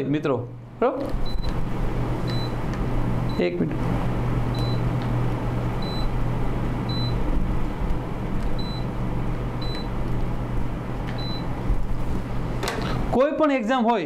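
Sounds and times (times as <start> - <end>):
low electrical hum and hiss: 0.0 - 14.0.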